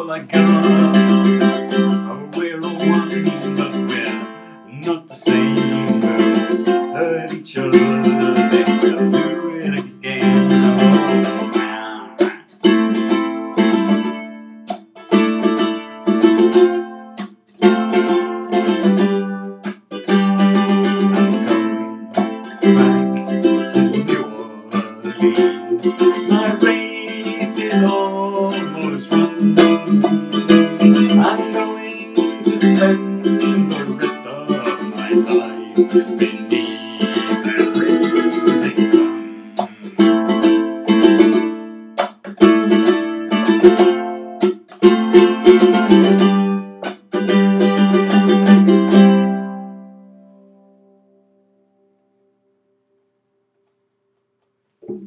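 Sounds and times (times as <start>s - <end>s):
ukulele strumming: 0.0s - 51.2s.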